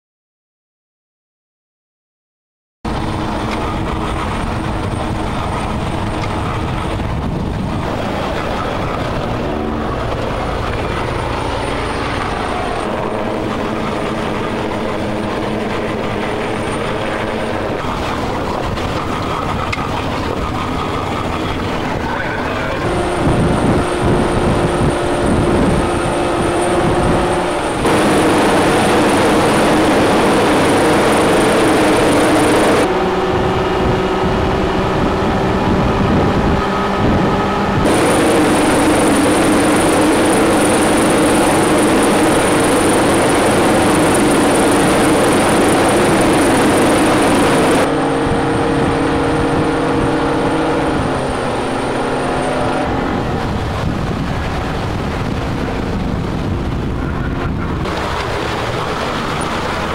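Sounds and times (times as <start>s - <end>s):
outboard engines running at speed: 2.9s - 59.9s
wind noise: 2.9s - 59.9s.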